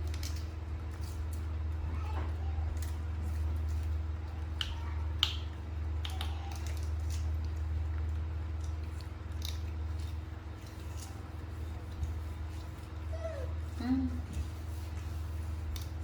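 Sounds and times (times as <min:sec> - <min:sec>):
dog crunching fruit: 0:00.0 - 0:16.0
steady low hum: 0:00.0 - 0:16.0.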